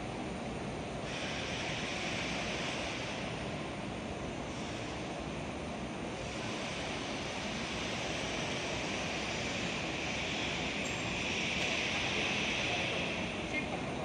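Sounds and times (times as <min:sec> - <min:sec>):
industrial machinery hum and hiss: 0:00.0 - 0:14.0.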